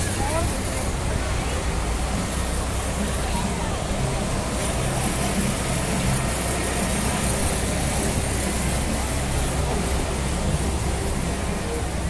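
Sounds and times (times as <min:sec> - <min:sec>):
faint voices of passers-by: 0:00.0 - 0:12.0
vehicle engine humming: 0:00.0 - 0:12.0.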